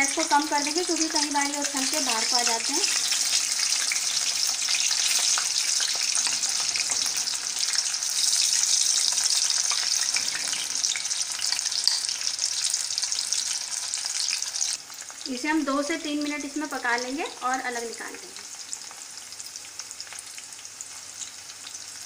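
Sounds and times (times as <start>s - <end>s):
corn deep-frying in hot oil: 0.0s - 22.0s.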